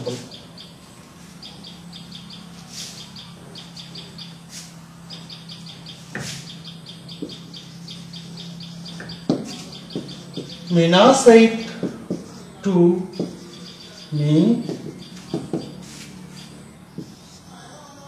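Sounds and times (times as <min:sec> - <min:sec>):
small bird chirping: 0:00.0 - 0:18.0
steady low hum: 0:00.0 - 0:18.0.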